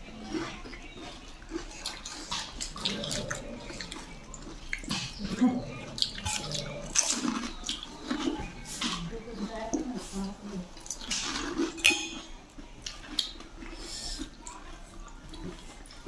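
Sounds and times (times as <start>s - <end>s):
crunching and slurping food: 0.0s - 16.0s.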